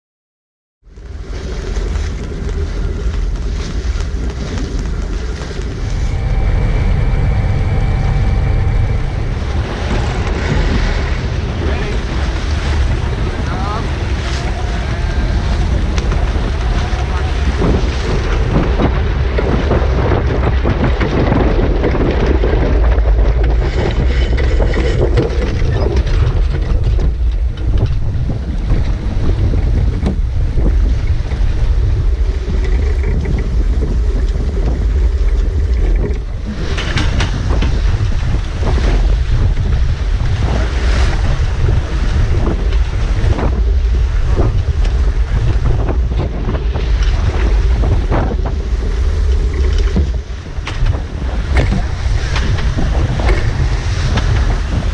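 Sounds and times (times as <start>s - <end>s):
water rushing along hull: 0.8s - 54.9s
wind buffeting microphone: 0.8s - 54.9s.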